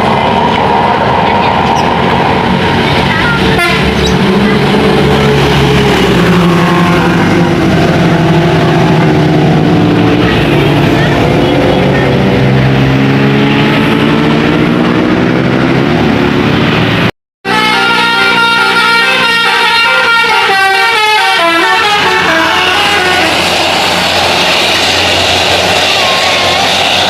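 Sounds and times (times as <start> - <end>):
heavy vehicle engine passing: 0.0 - 17.1, 21.1 - 27.0
road noise: 0.0 - 27.0.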